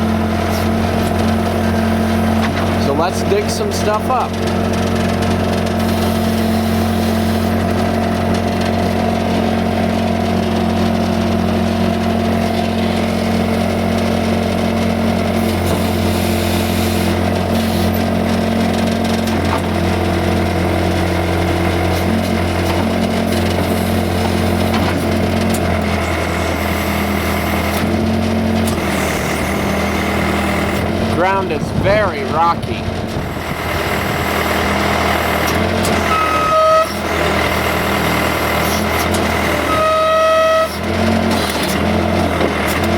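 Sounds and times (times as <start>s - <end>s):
diesel engine running steadily: 0.0s - 42.9s.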